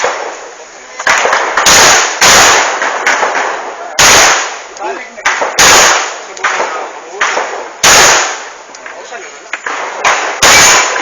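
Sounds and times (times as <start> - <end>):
gunshots: 0.0 - 11.0.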